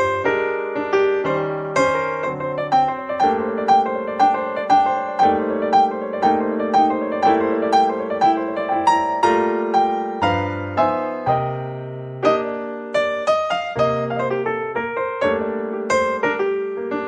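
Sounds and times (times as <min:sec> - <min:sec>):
calm piano music: 0:00.0 - 0:17.0.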